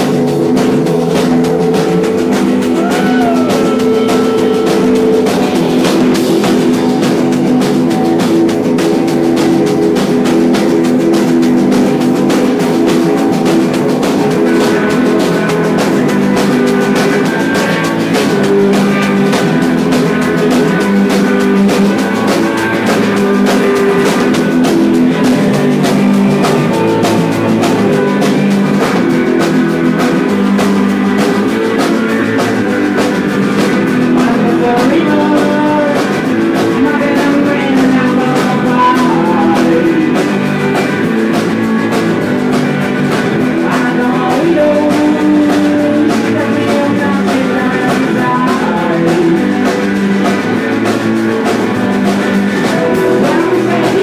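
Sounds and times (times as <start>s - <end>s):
drum kit with crashing cymbals: 0.0s - 54.0s
electric guitars: 0.0s - 54.0s.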